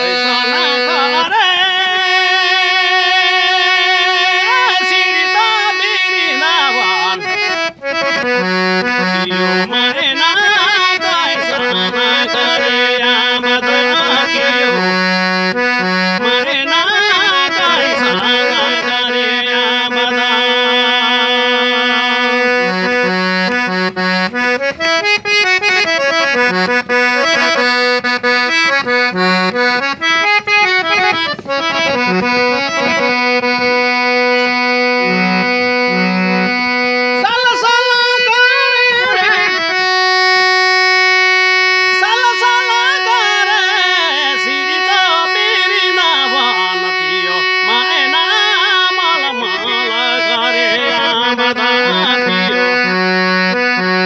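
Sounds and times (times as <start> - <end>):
harmonium melody: 0.0 - 54.0.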